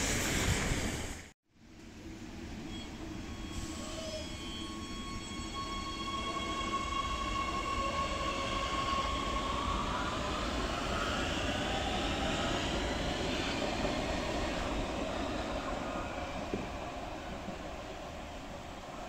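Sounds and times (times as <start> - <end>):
low train rumble: 0.0 - 19.0
electric train drive whining: 2.5 - 19.0.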